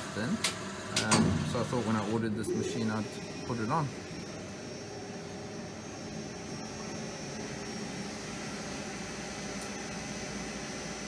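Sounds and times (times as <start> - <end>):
lathe humming and hissing: 0.0 - 11.0
faint high whine: 1.2 - 11.0.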